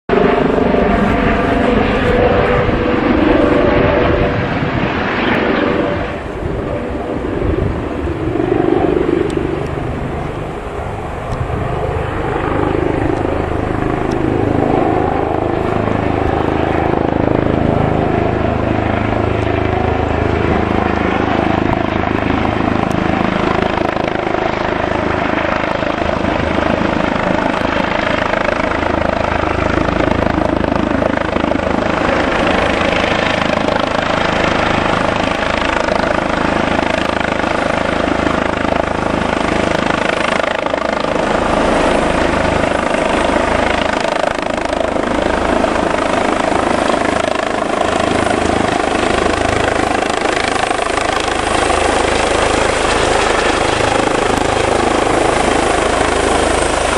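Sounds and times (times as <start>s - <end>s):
helicopter rotor and turbine: 0.1s - 56.9s.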